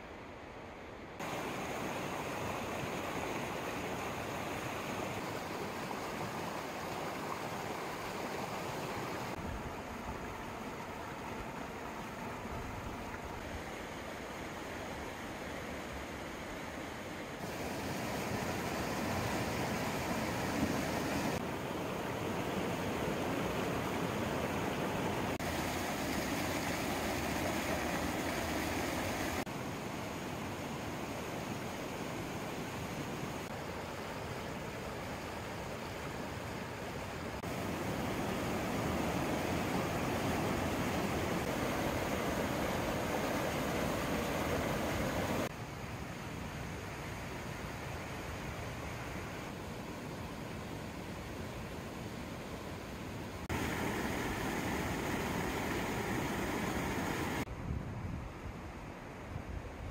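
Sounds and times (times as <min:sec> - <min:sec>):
stream rushing over rocks: 0:01.2 - 0:57.5.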